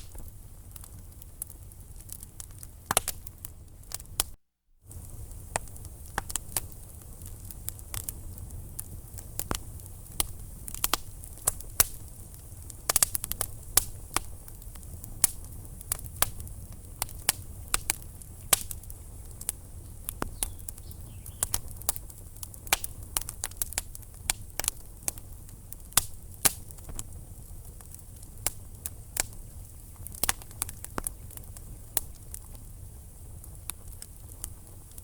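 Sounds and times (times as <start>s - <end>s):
logs crackling and popping: 0.0s - 35.0s
low rumble of flames: 0.0s - 35.0s.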